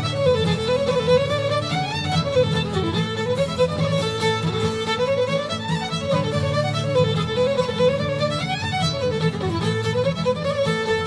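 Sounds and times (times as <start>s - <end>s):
fiddle music: 0.0s - 11.0s.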